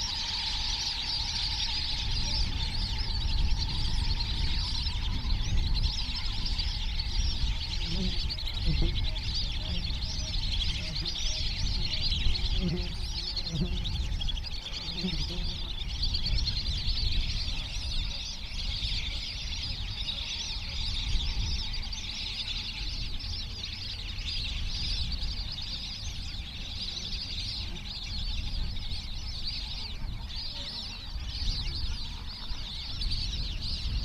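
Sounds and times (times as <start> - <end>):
ducks whistling in chorus: 0.0 - 34.0.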